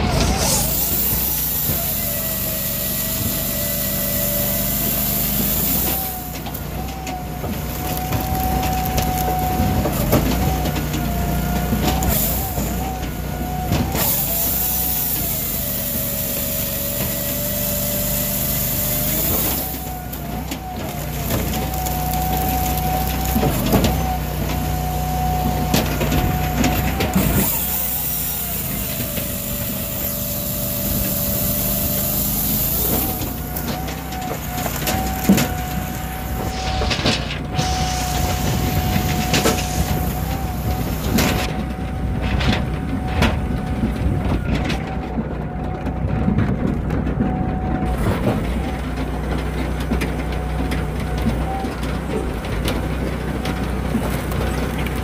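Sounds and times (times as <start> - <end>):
chain saw cutting logs: 0.0 - 45.6
engine and hydraulics running: 0.0 - 55.0
log splitter splitting wood: 0.0 - 55.0.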